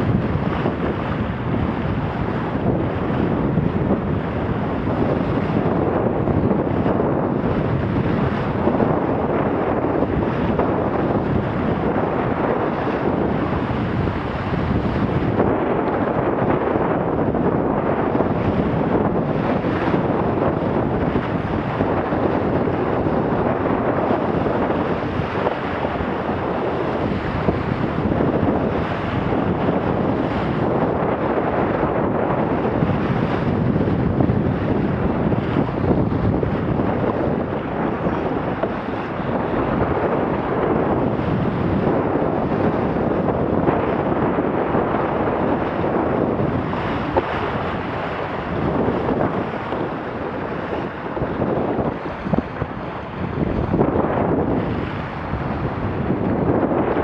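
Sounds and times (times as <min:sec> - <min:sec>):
water rushing along hull: 0:00.0 - 0:57.0
wind buffeting microphone: 0:00.0 - 0:57.0.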